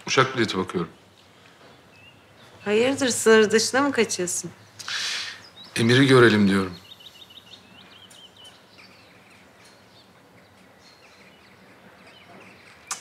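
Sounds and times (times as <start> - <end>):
outdoor background noise: 0.0 - 13.0
small birds chirping: 0.0 - 13.0.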